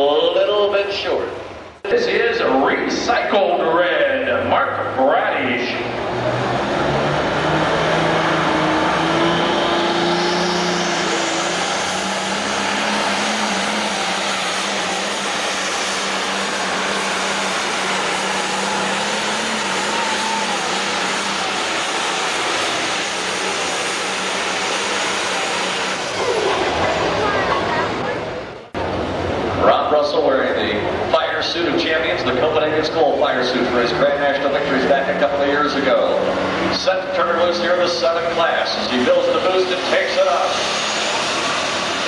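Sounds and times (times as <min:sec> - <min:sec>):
diesel engine at full throttle: 0:00.0 - 0:42.0.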